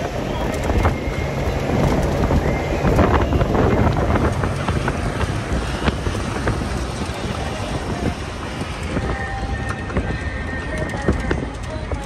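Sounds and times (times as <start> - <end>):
low rumble: 0.0 - 12.0
wind buffeting microphone: 0.0 - 12.0.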